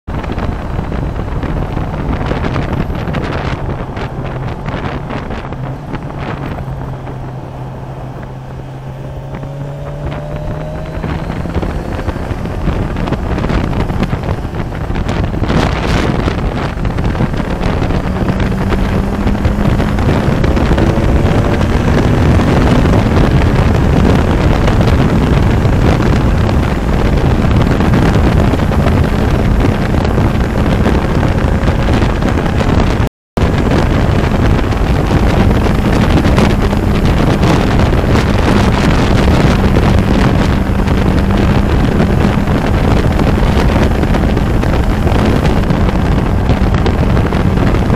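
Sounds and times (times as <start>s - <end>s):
motorcycle engine at road speed: 0.1s - 47.9s
wind rush on microphone: 0.1s - 47.9s.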